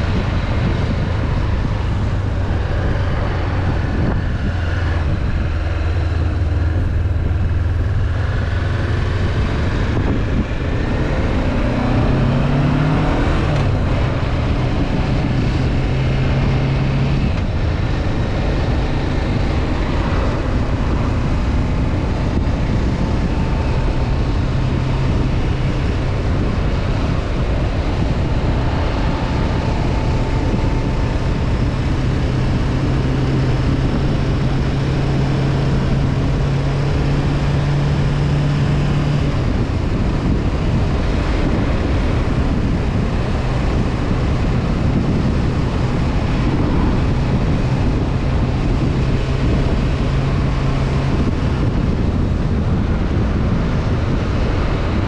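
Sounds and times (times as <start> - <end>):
motorcycle engine cruising: 0.0 - 55.0
road noise: 0.0 - 55.0
wind noise: 0.0 - 55.0.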